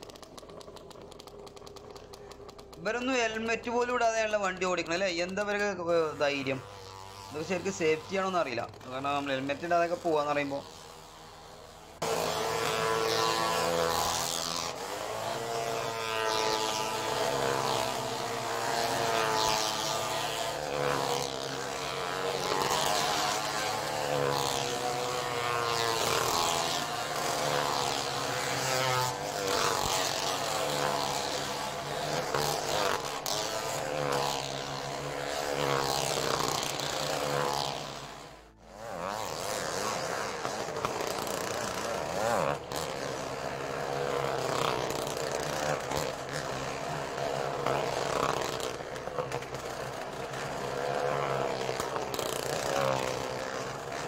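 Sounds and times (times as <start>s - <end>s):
engines revving: 0.0s - 54.0s.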